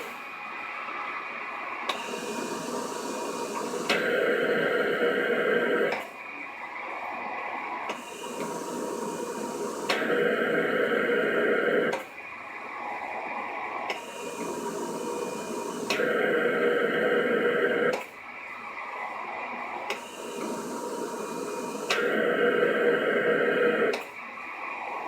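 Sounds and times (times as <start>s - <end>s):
machine rushing air with whine: 0.0s - 25.0s.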